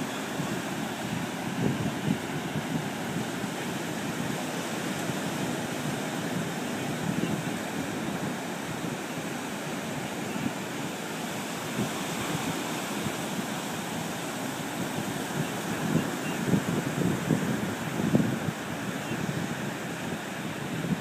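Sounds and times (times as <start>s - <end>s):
ocean surf rushing: 0.0s - 21.0s
wind on microphone: 0.0s - 21.0s.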